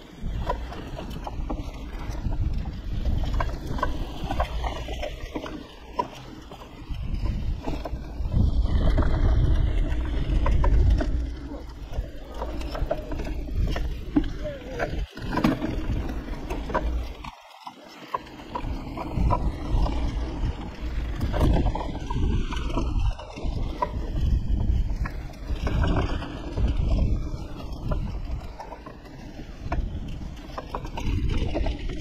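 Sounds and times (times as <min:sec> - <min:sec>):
wind buffeting microphone: 0:00.0 - 0:17.3, 0:18.3 - 0:32.0
bicycle tyres on trail: 0:00.0 - 0:32.0
bike rattling and clicking: 0:00.0 - 0:32.0.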